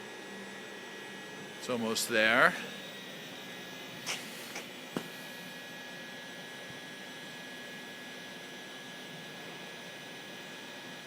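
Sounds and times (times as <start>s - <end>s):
milling machine humming: 0.0s - 11.0s.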